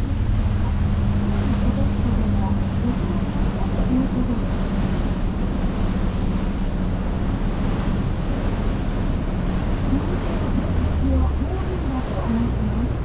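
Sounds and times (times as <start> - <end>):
low engine drone: 0.0 - 13.0
rushing boat wake: 0.0 - 13.0
wind buffeting microphone: 0.0 - 13.0.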